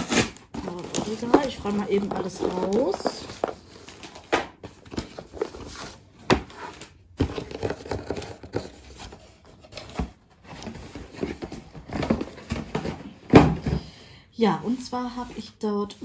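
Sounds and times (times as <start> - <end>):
cardboard and paper rustling: 0.0 - 13.8.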